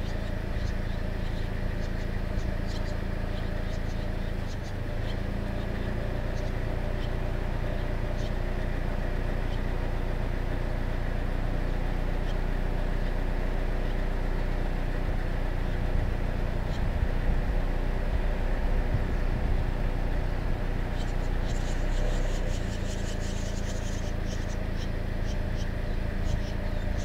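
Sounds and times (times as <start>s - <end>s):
nestlings chirping: 0.0s - 10.3s, 11.7s - 14.6s, 15.4s - 27.0s
low machine hum: 0.0s - 27.0s.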